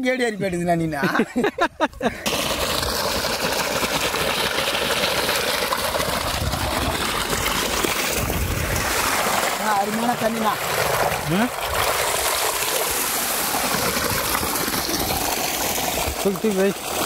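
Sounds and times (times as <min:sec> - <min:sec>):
water gushing: 0:02.2 - 0:17.0.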